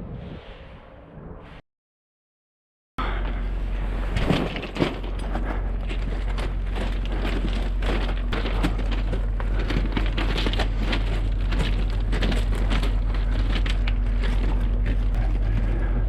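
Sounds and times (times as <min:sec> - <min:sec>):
diesel engine hum: 0:03.0 - 0:16.0
crunching and crackling clicks: 0:03.1 - 0:16.0.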